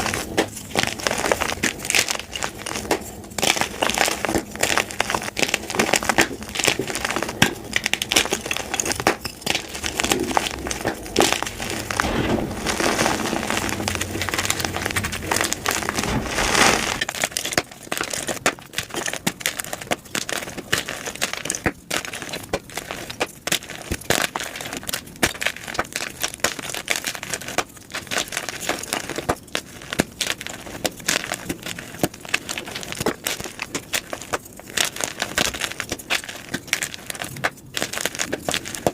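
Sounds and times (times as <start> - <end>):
chalk crushing and crunching: 0.0 - 38.9.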